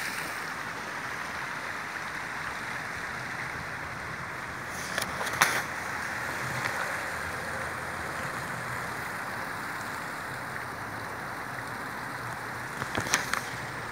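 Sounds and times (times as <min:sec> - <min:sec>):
flowing water rushing: 0:00.0 - 0:13.9.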